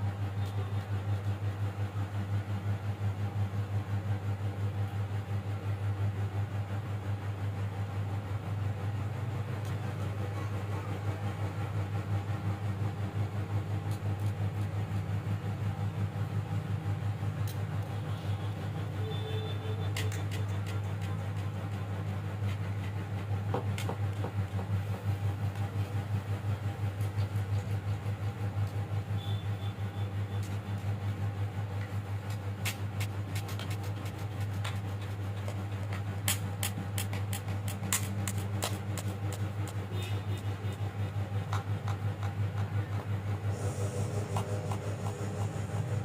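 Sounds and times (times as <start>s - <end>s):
low pulsing mechanical hum: 0.0s - 46.0s.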